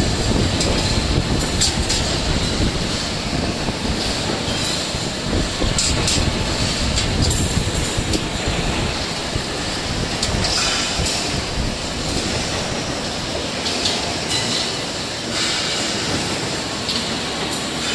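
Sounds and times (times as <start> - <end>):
wire bending machine clatter: 0.0 - 17.9.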